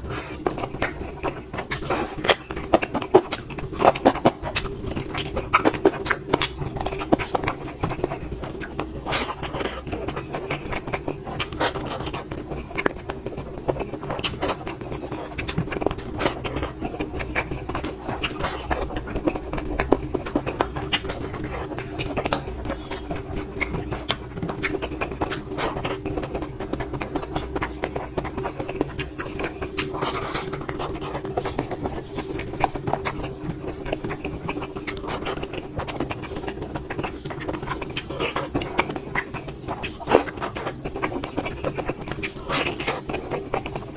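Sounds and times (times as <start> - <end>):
steady hum: 0.0 - 43.9
wet chewing and lip smacks: 0.0 - 43.9.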